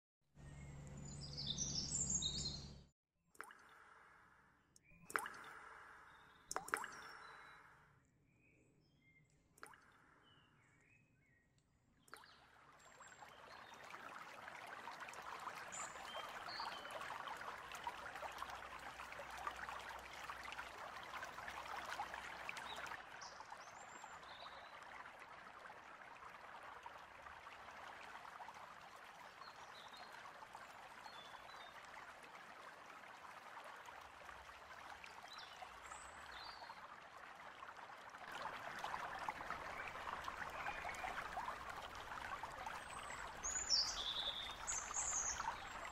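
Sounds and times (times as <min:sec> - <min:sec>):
stream trickling: 0:00.4 - 0:02.8, 0:03.4 - 0:45.9.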